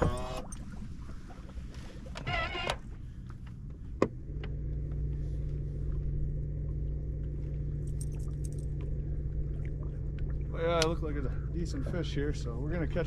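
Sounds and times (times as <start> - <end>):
boat motor droning hum: 0.0 - 13.0.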